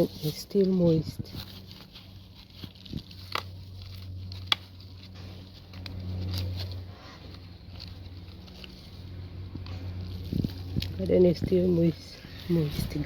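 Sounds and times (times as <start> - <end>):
light handling rustles: 0.0 - 13.0
low steady hum: 0.0 - 13.0.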